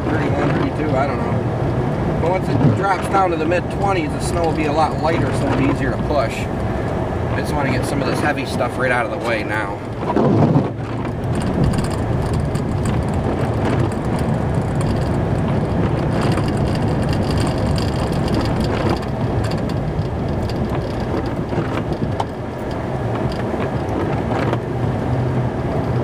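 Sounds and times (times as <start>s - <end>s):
truck engine: 0.0s - 26.0s.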